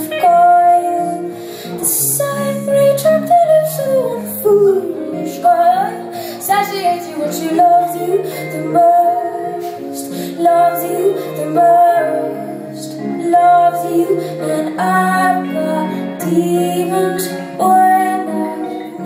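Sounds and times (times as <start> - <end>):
guitar accompaniment: 0.0 - 19.0
woman singing slow song: 0.0 - 19.0.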